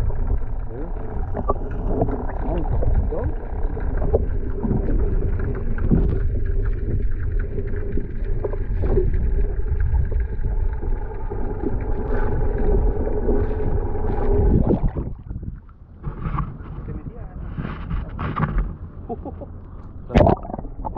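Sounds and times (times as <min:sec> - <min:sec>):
faint steady hum: 0:00.0 - 0:20.9
muffled underwater rumble: 0:00.0 - 0:20.9.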